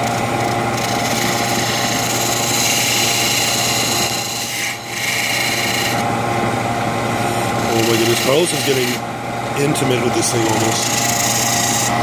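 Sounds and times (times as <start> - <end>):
lathe tool scraping wood: 0.0 - 6.1, 7.1 - 12.0
lathe machine hum: 0.0 - 12.0.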